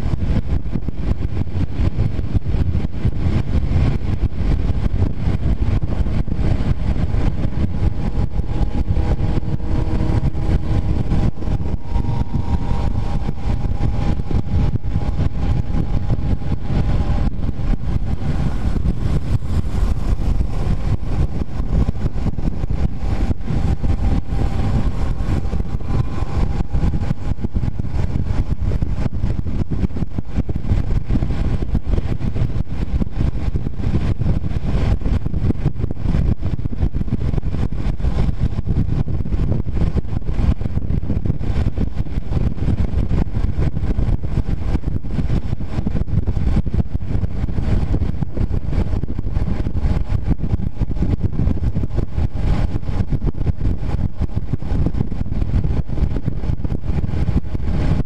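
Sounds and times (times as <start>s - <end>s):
motorcycle engine hum: 0.0s - 58.0s
wind rush on microphone: 0.0s - 58.0s.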